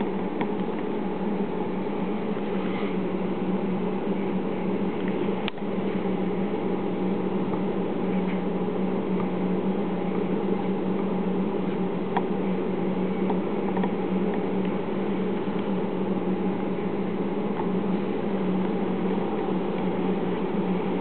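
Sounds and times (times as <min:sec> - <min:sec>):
servo motor electrical hum: 0:00.0 - 0:21.0.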